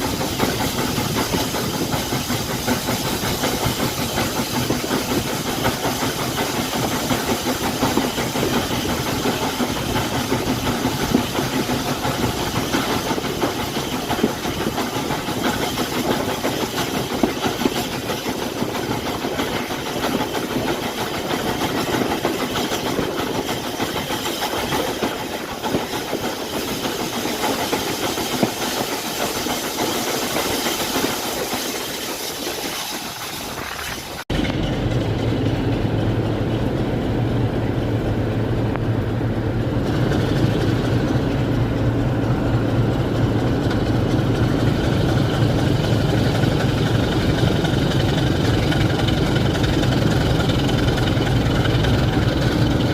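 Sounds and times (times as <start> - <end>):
locomotive hissing and running: 0.0 - 52.9.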